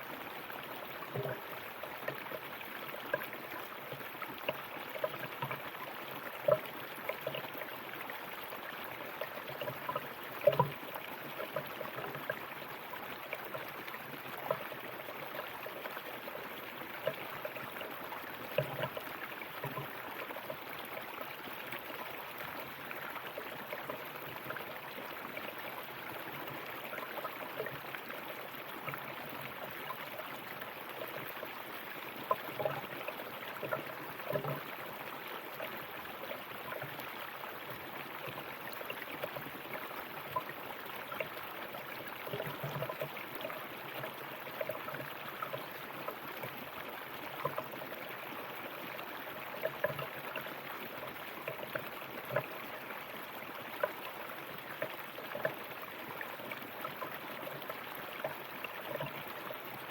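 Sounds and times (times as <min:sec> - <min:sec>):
river water babbling over stones: 0:00.0 - 0:59.9.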